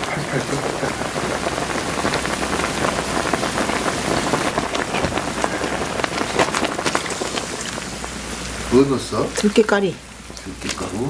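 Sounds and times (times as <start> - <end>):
soup boiling with bubbling hiss: 0.0 - 11.0.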